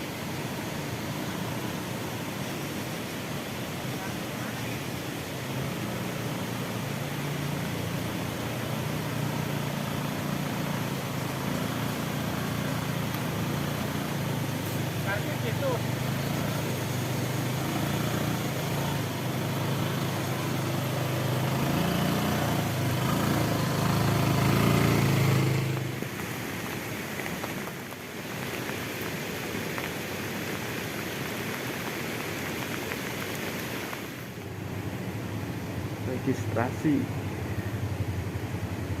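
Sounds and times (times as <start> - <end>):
outdoor hiss: 0.0 - 39.0
vehicle engine humming: 0.0 - 39.0.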